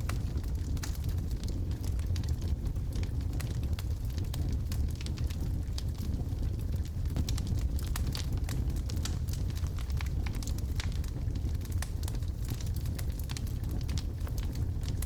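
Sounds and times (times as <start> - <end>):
fire crackles and pops: 0.0 - 15.0
fire low rumble: 0.0 - 15.0.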